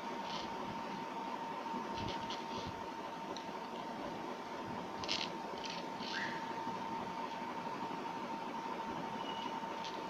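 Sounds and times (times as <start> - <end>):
faint constant tone: 0.0 - 10.0.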